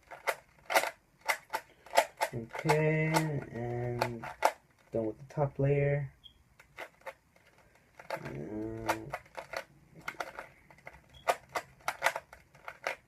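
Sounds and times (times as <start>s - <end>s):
plastic puzzle cube clicking: 0.0s - 5.0s, 6.6s - 13.0s.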